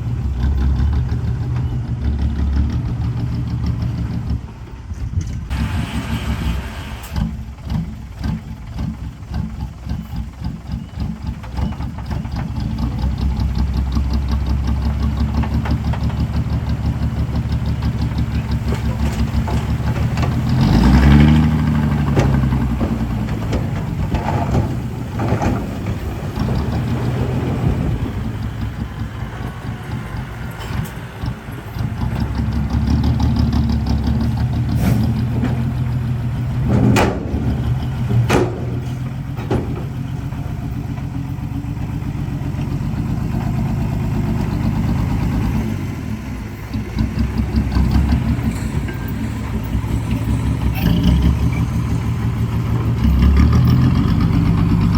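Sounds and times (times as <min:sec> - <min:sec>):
heavy diesel engine running: 0:00.0 - 0:54.9.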